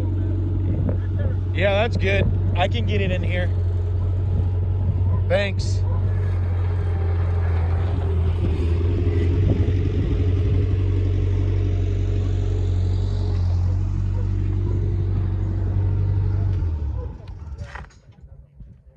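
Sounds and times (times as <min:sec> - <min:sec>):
vehicle engine droning: 0:00.0 - 0:18.4.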